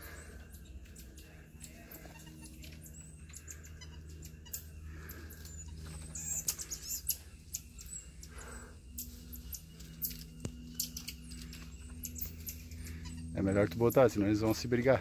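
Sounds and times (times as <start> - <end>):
faint low hum: 0.0 - 15.0
marmosets chirping: 0.0 - 15.0.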